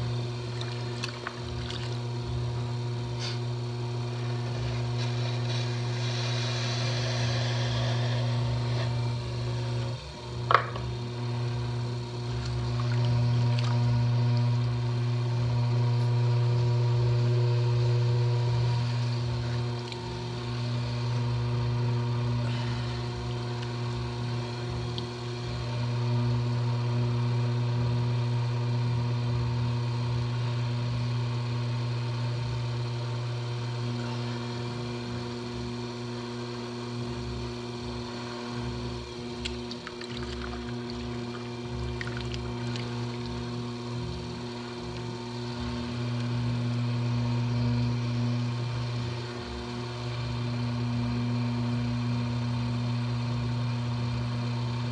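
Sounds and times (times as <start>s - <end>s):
potter's wheel motor hum: 0.0s - 54.9s.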